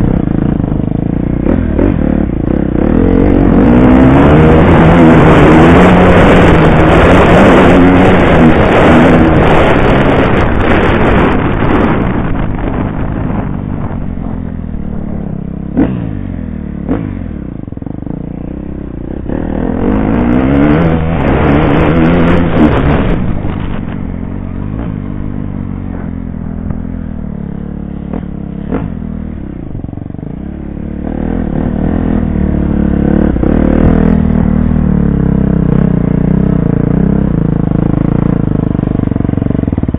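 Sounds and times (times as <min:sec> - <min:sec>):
dirt bike engine revving: 0:01.3 - 0:29.5, 0:30.4 - 0:37.3.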